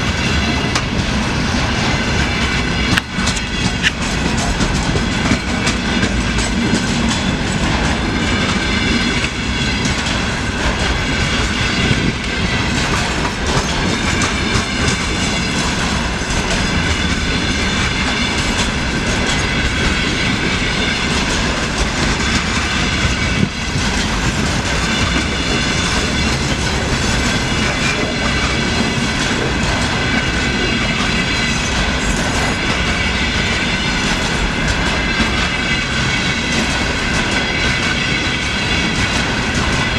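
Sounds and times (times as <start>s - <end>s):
train rumble: 0.0s - 39.9s
wheels clacking over rail joints: 0.0s - 39.9s.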